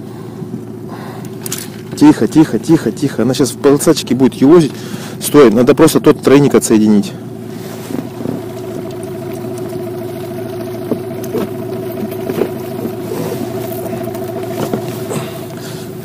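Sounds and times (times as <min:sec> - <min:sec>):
outboard motor idling: 0:00.0 - 0:16.0.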